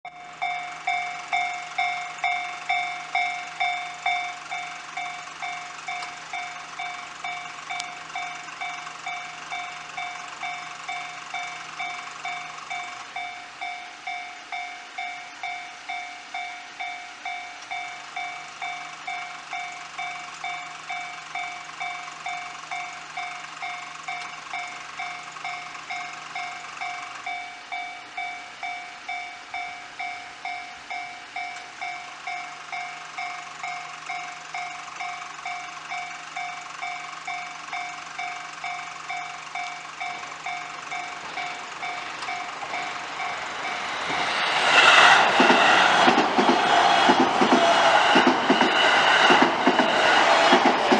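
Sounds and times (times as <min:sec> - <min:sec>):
level crossing alarm ringing: 0:00.1 - 0:44.2
oncoming train: 0:00.1 - 0:50.9.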